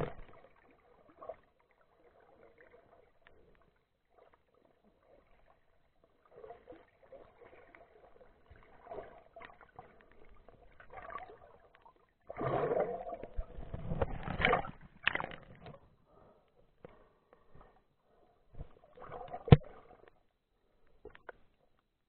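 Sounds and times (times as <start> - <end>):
water sloshing and splashing: 0.0 - 21.8.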